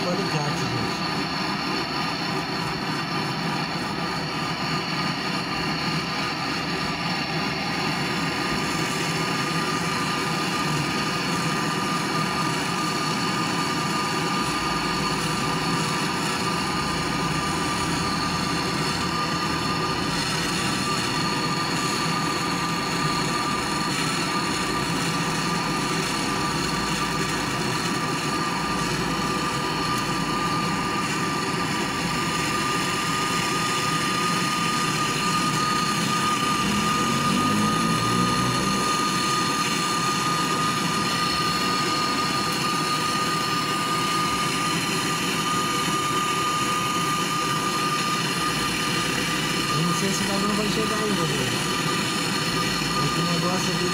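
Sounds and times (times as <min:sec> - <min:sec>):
gas torch hissing: 0:00.0 - 0:53.9
torch high whistle: 0:00.0 - 0:53.9.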